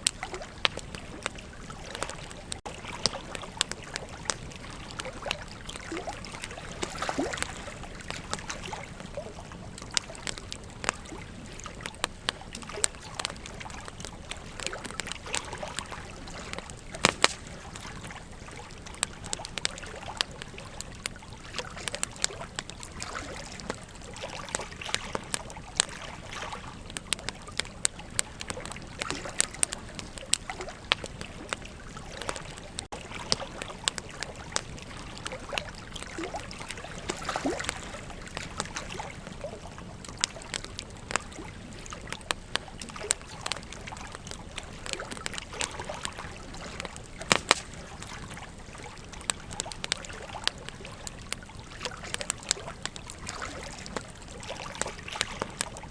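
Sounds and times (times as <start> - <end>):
river water flowing: 0.0 - 55.9
wood fire crackling and popping: 0.0 - 55.9.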